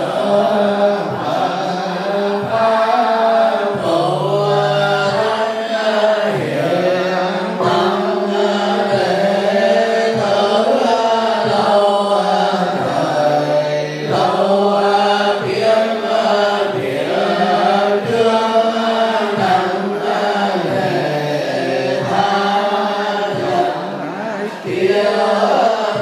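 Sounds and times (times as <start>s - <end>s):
monks chanting: 0.0s - 26.0s.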